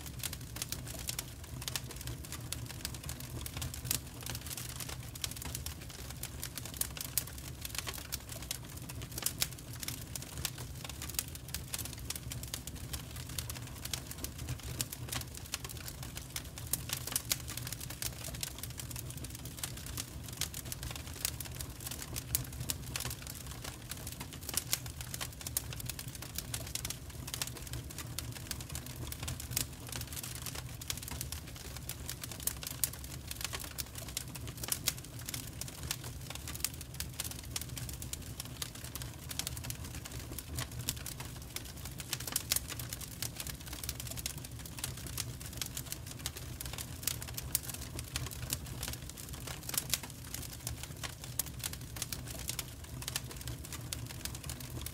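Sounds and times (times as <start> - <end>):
low fire rumble: 0.0 - 54.9
wood fire crackling and popping: 0.0 - 54.9.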